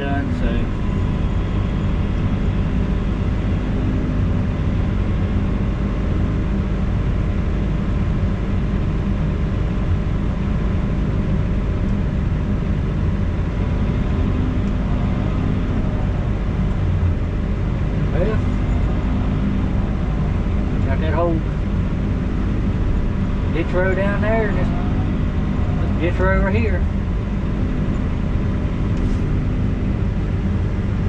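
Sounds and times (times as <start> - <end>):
heavy equipment engine running: 0.0 - 31.0.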